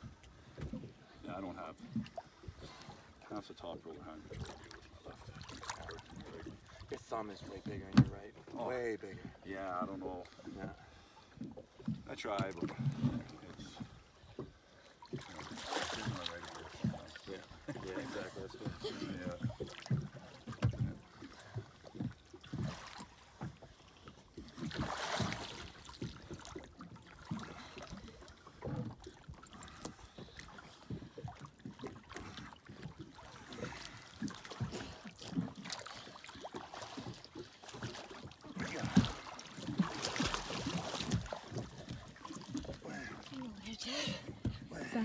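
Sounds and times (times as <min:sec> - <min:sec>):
water slapping against wooden dock: 0:00.0 - 0:45.0.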